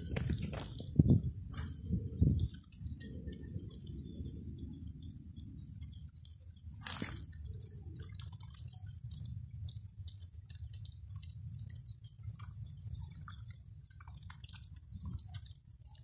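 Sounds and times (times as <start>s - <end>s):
fish feeding at water surface: 0.0s - 16.0s.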